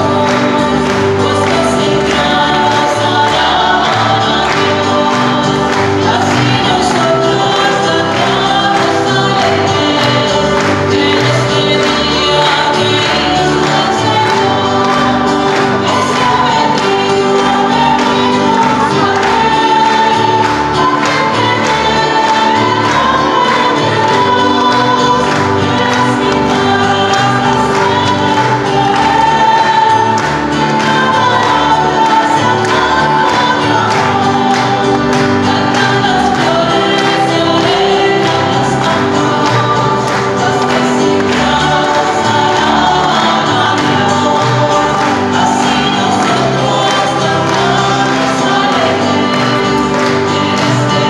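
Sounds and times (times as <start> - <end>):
choir singing a hymn: 0.0 - 51.0
instrumental accompaniment: 0.0 - 51.0.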